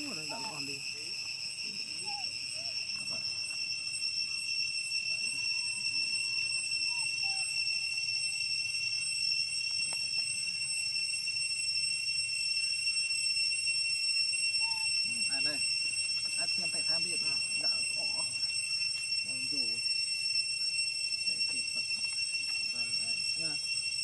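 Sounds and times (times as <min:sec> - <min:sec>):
insect buzzing drone: 0:00.0 - 0:24.0.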